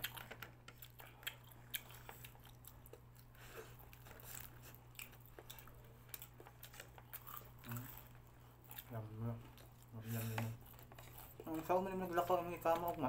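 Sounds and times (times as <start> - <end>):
person chewing crunchy chicken: 0.0 - 13.0.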